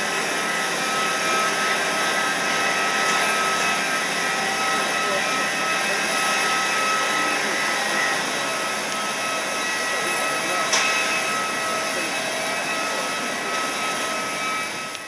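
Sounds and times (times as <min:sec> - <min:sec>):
jet turbine whine and roar: 0:00.0 - 0:15.0.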